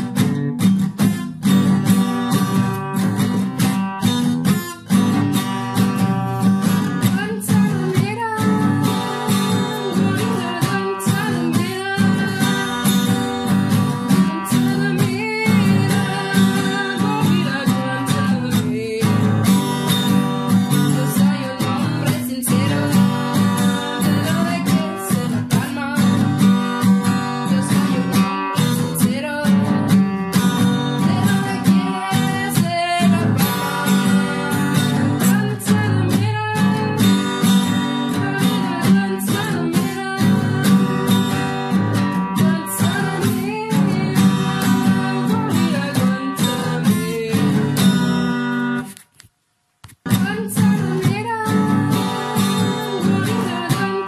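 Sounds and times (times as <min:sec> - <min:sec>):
strummed acoustic guitar: 0:00.0 - 0:49.2, 0:49.9 - 0:54.0
person singing: 0:05.8 - 0:48.9, 0:50.1 - 0:54.0.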